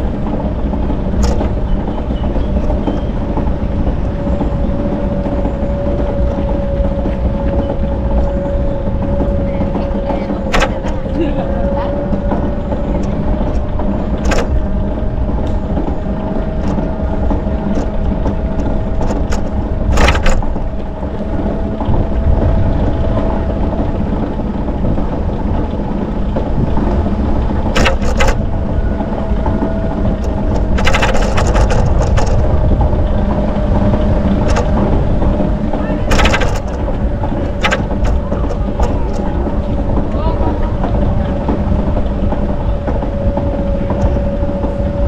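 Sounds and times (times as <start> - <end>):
sharp rattling clatters: 0.0 - 22.4, 23.7 - 45.0
bicycle tyre noise: 0.0 - 45.0
steady hum: 0.0 - 45.0
wind rumble on microphone: 0.0 - 45.0.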